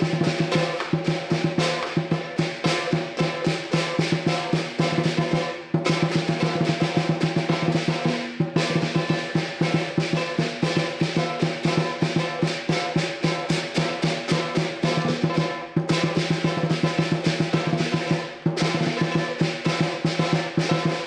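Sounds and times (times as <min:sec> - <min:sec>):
cymbals and gong clashing: 0:00.0 - 0:21.0
lion drum beaten fast: 0:00.0 - 0:21.0.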